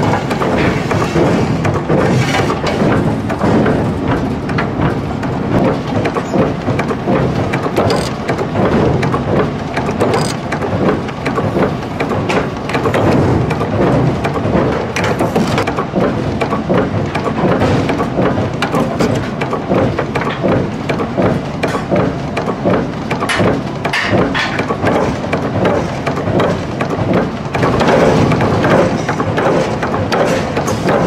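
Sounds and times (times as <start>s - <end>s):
forging hammer striking steel: 0.0s - 31.0s
steady loud machine noise: 0.0s - 31.0s.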